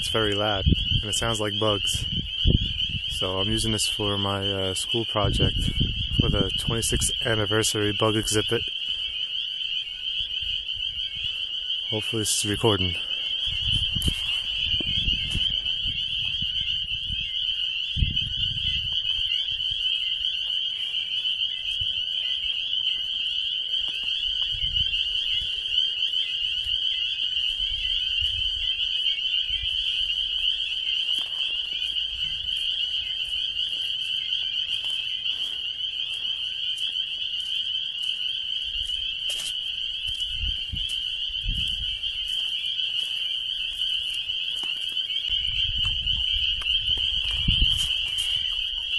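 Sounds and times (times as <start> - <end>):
chorus of frogs calling: 0.0 - 48.9.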